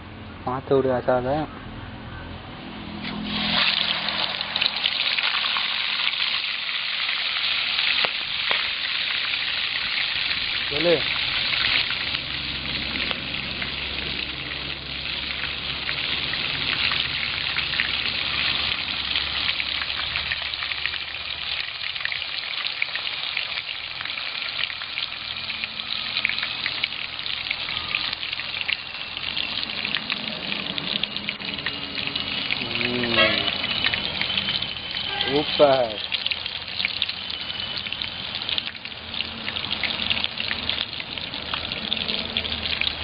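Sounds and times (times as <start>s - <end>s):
crabs deep-frying in hot oil: 3.0s - 43.0s.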